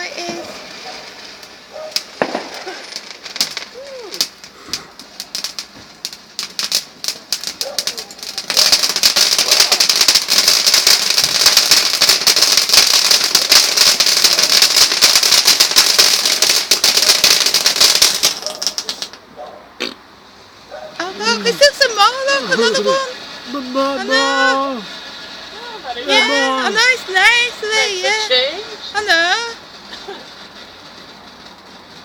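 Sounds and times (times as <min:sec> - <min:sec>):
fireworks crackling and popping: 0:00.0 - 0:32.0.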